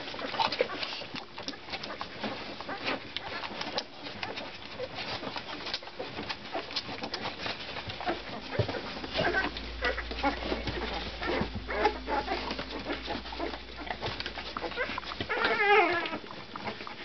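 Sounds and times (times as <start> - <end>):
puppies squeaking and grunting: 0.0 - 17.0
puppies suckling: 0.0 - 17.0
shuffling: 0.0 - 17.0.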